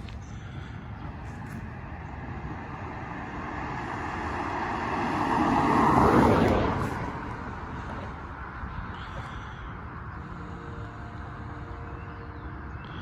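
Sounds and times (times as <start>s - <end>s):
vehicle driving past: 0.0s - 13.0s.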